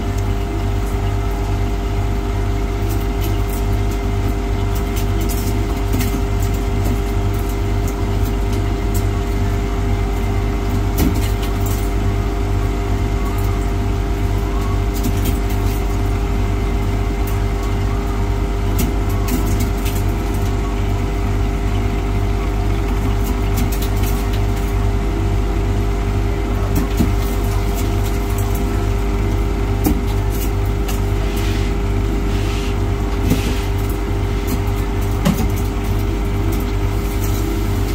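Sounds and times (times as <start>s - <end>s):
ice machine humming: 0.0s - 37.9s.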